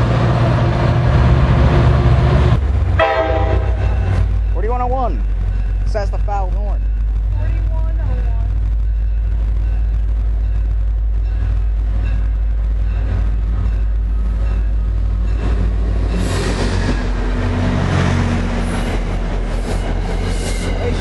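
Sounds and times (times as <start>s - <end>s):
diesel locomotive engine rumble: 0.0s - 21.0s
train wheels on rails: 0.0s - 21.0s.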